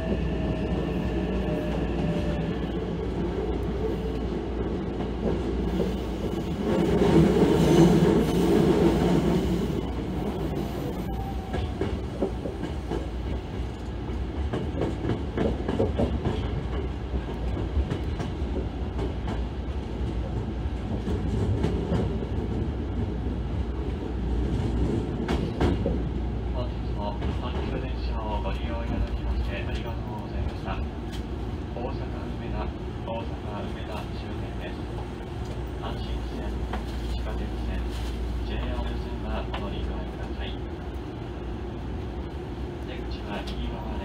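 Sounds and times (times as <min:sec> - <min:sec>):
wheels rumbling on rail: 0:00.0 - 0:44.0.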